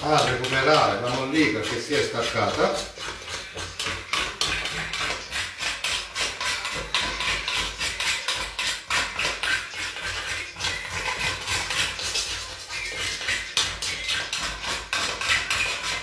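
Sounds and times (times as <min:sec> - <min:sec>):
hot oil crackling: 0:00.0 - 0:16.0
scraping and tapping on grill plate: 0:00.0 - 0:16.0.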